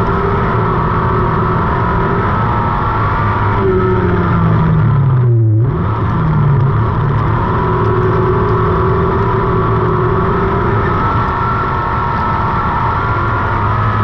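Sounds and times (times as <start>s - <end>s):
race car engine at high revs: 0.0s - 14.0s.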